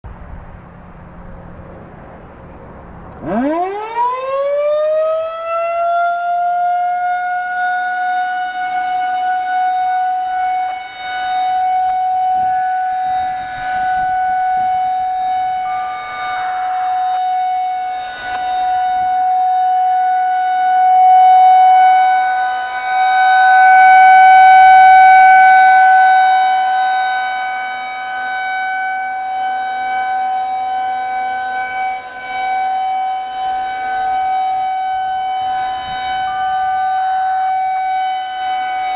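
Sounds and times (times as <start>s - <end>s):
rotating warning siren: 0.1s - 38.9s.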